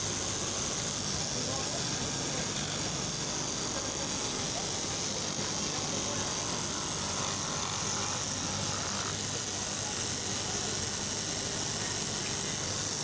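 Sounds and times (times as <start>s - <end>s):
fabric cutting machine running: 0.0s - 13.0s.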